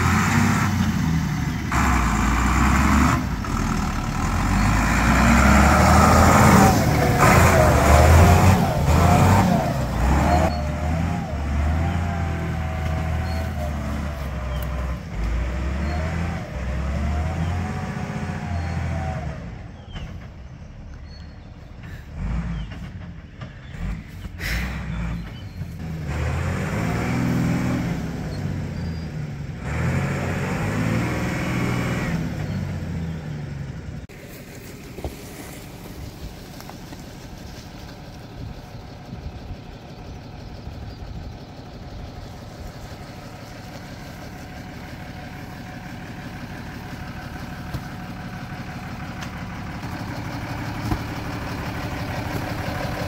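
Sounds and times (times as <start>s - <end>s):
vehicle engine revving: 0.0s - 53.0s.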